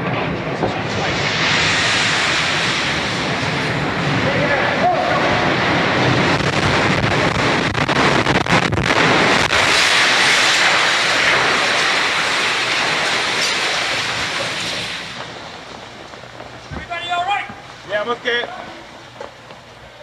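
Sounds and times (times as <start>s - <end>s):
sharp cracks: 0.0s - 17.9s
building collapsing roar: 0.0s - 19.0s.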